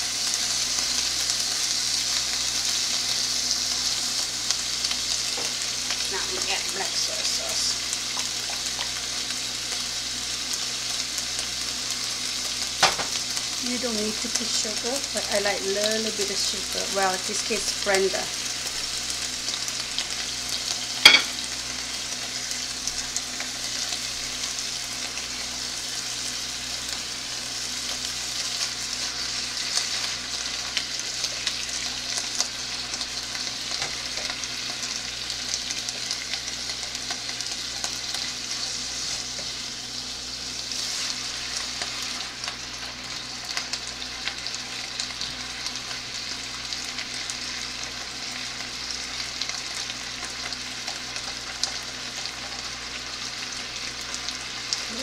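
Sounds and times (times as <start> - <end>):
meat and peppers sizzling in a pan: 0.0 - 55.0.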